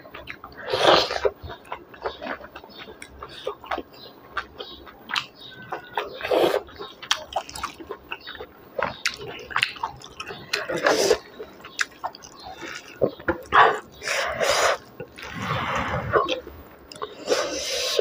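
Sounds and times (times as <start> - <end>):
chewing and wet mouth smacking: 0.0 - 15.6, 16.2 - 18.0.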